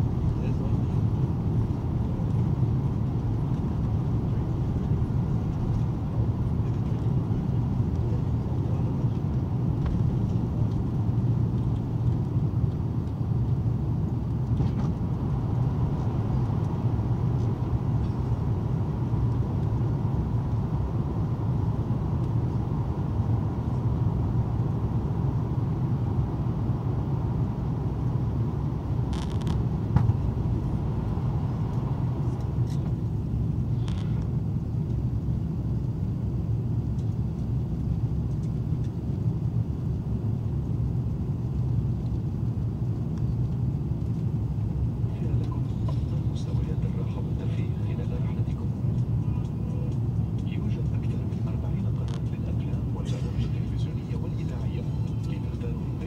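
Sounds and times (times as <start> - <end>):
airliner rumbling: 0.0 - 56.0.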